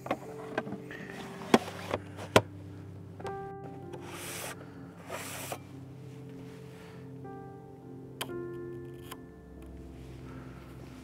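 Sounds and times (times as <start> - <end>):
ambient music with held tones: 0.0 - 11.0.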